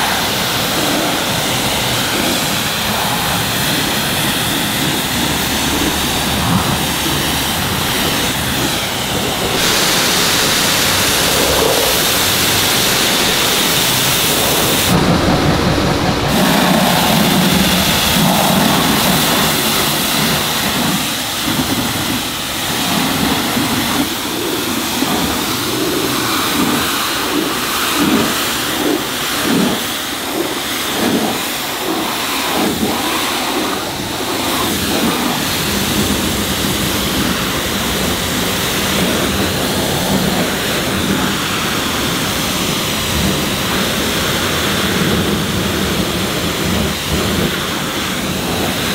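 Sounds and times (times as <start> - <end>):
pressure washer spraying car: 0.0 - 48.9.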